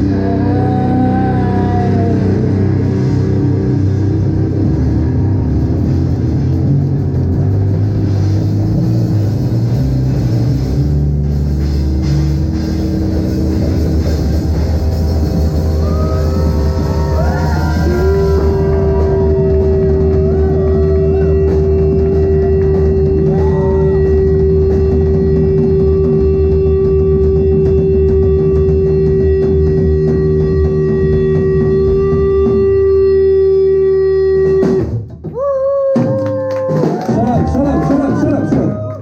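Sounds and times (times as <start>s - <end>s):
low rumbling drone: 0.0s - 34.6s.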